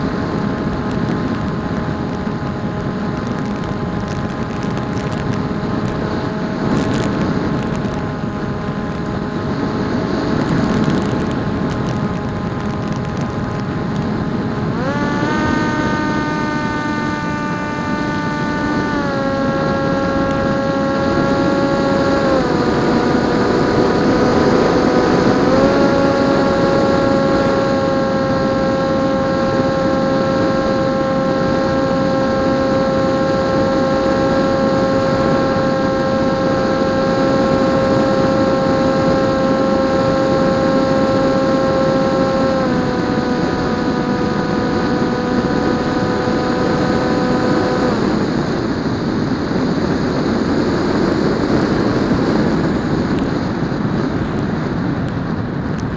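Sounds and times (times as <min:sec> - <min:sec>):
electric motor and propeller whining: 0:00.0 - 0:55.9
wind noise: 0:00.0 - 0:55.9.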